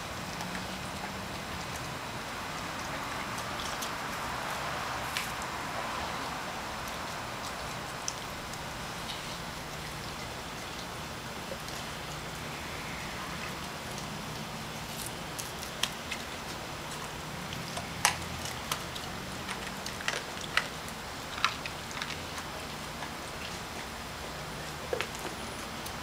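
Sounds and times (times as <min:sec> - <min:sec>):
steady background noise: 0:00.0 - 0:26.0
dog chewing raw fish: 0:00.2 - 0:26.0.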